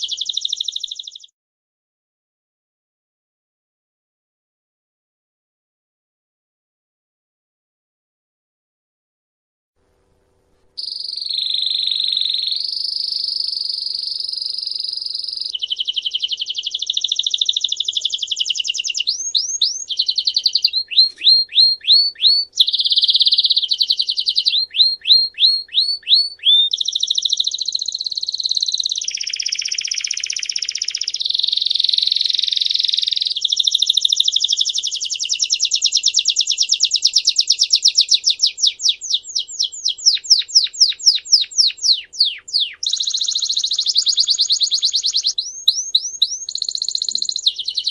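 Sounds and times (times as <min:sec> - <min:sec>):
songbird singing trills: 0:00.0 - 0:01.3, 0:10.8 - 0:47.9.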